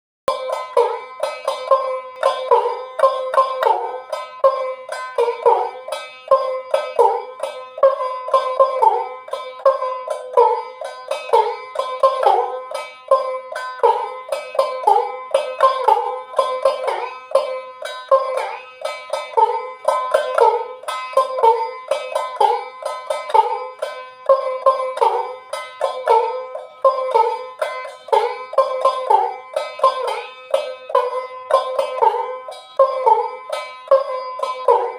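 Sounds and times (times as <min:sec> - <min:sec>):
single-string lute plucked: 0:00.3 - 0:34.9.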